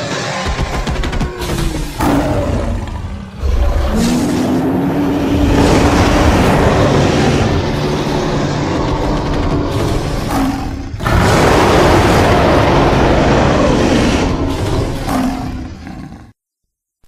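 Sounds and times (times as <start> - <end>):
ape roaring calls: 1.8 - 16.4.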